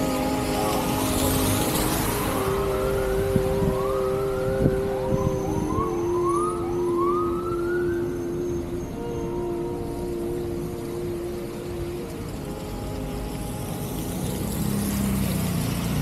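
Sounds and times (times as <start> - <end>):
siren whooping: 0.0 - 15.1
vehicles idling in traffic: 0.0 - 16.0.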